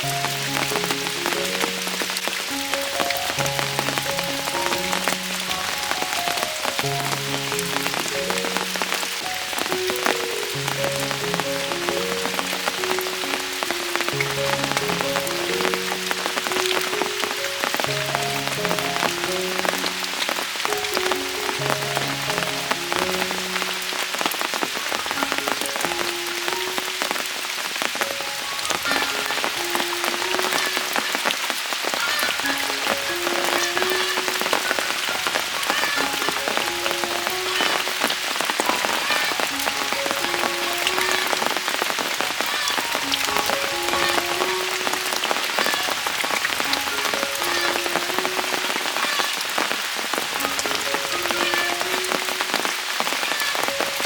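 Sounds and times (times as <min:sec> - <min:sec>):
soft background melody: 0:00.0 - 0:31.3, 0:32.1 - 0:49.0, 0:50.2 - 0:54.0
rain falling on surfaces: 0:00.0 - 0:54.0.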